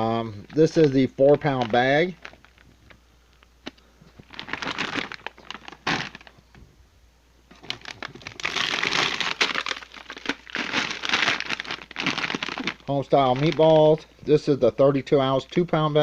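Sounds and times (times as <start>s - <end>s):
plastic bags crinkling: 0.0s - 6.6s, 7.5s - 14.0s.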